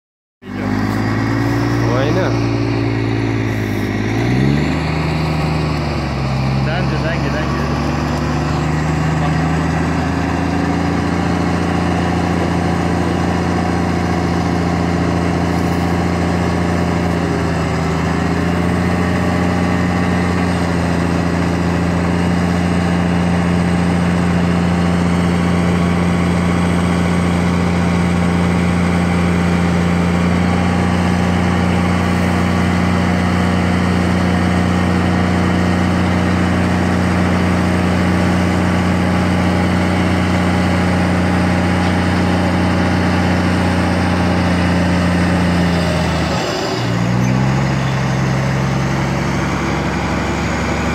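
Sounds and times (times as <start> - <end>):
diesel truck engine running: 0.4 - 50.9.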